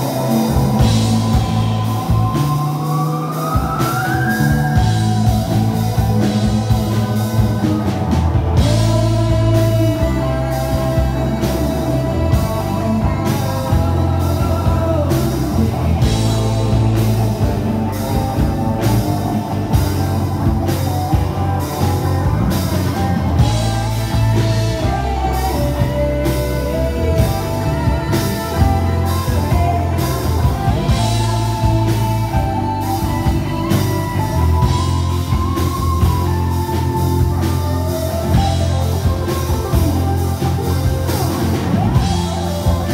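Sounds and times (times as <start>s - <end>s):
live rock band playing: 0.0s - 42.9s
moving bass line: 0.0s - 42.9s
steady drum beat: 0.0s - 42.9s.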